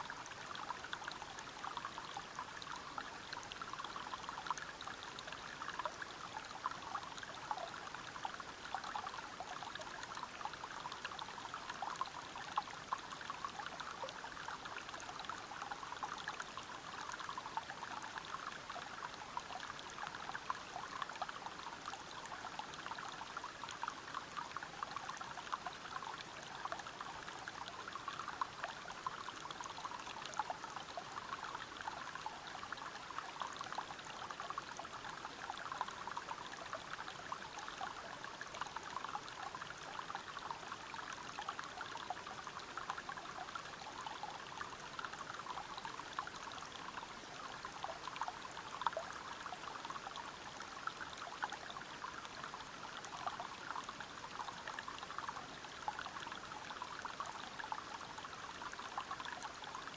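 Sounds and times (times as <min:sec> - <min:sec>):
water flowing over rocks: 0:00.0 - 0:59.9.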